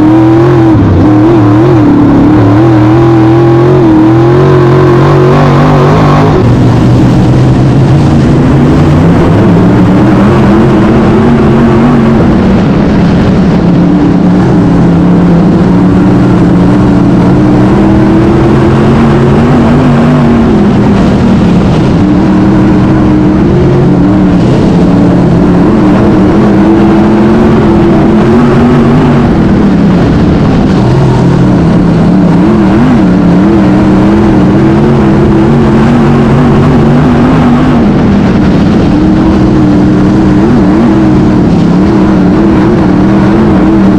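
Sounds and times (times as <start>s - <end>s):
race car engine revving: 0.0s - 43.9s.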